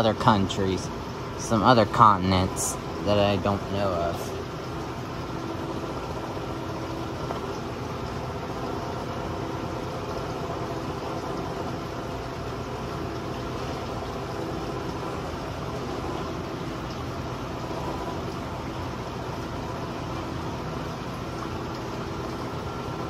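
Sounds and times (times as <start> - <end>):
constant hiss: 0.0 - 23.0
machine hum with held tones: 0.0 - 23.0.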